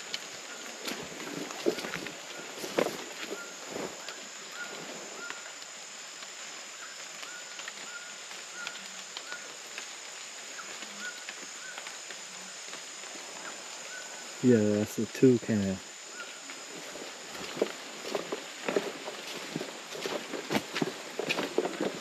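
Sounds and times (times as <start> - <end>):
high hiss of insects: 0.0 - 22.0.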